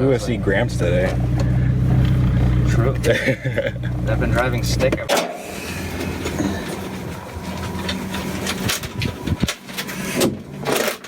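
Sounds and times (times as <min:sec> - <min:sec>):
vehicle running hum: 0:00.0 - 0:11.0.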